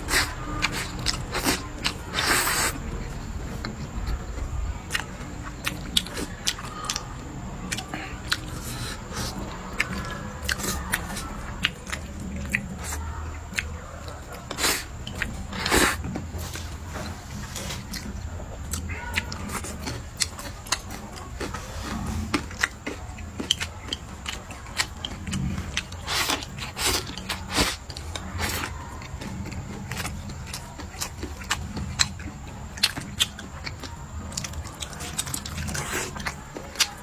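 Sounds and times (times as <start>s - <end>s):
person chewing food: 0.0s - 37.0s
steady low hum: 0.0s - 37.0s.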